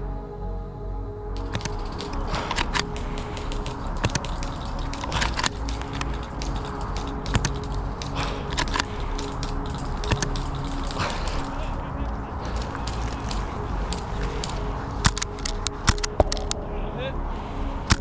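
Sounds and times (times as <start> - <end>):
background music with held notes: 0.0 - 18.0
sharp cracks and clicks: 1.4 - 16.6.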